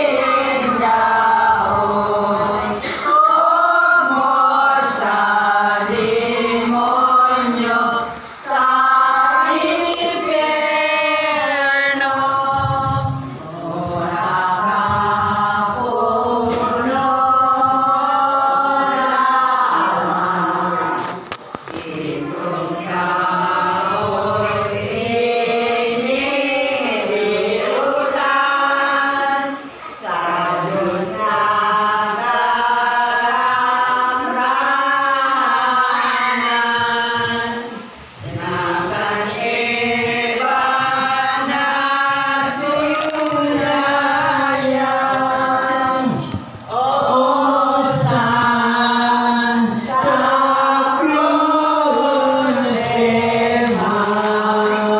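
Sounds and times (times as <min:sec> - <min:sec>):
congregation singing a hymn: 0:00.0 - 0:54.9.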